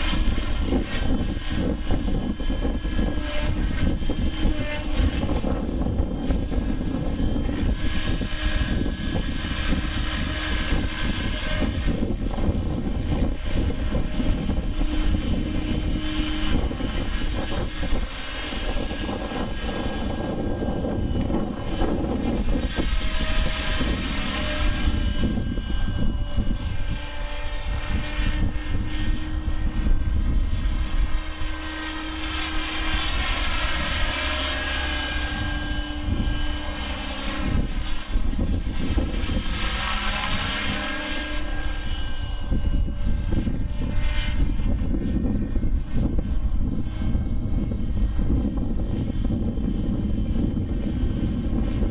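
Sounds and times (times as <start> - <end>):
model helicopter rotor whine: 0.0 - 51.9
wind buffeting on microphone: 0.0 - 51.9.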